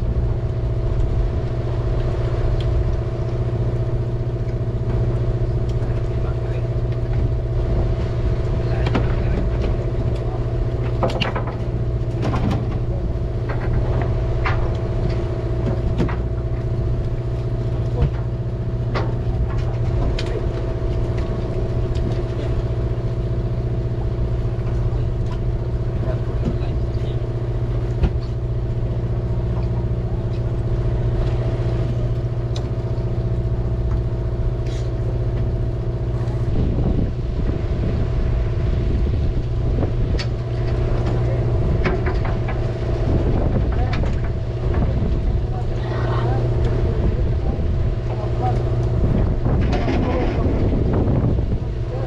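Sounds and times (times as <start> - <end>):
boat engine droning: 0.0 - 52.0.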